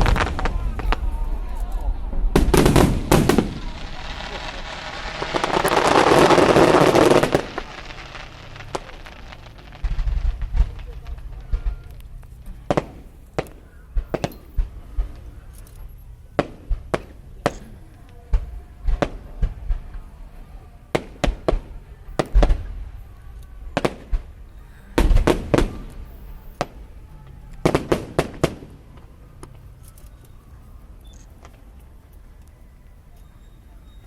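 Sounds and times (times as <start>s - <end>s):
fireworks bangs: 0.0s - 29.8s.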